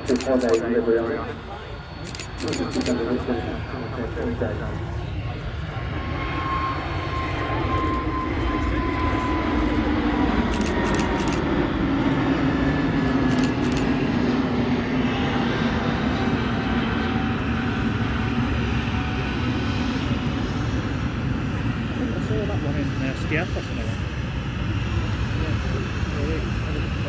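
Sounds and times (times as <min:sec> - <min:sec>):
jet airliner engines rumbling: 0:00.0 - 0:27.0.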